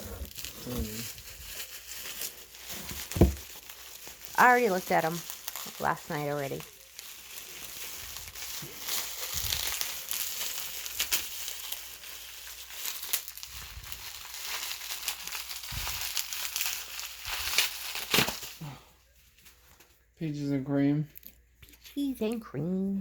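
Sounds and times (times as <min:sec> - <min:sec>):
packing material rustling: 0:00.0 - 0:20.0.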